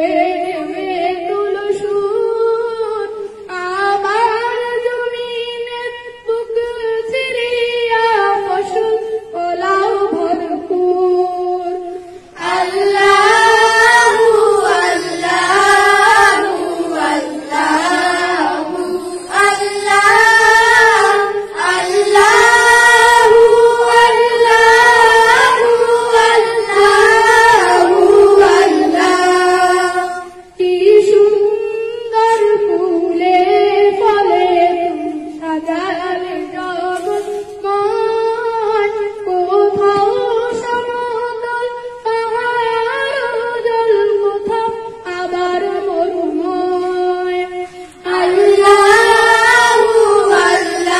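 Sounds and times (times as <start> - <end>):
children singing into microphone: 0.0 - 50.9.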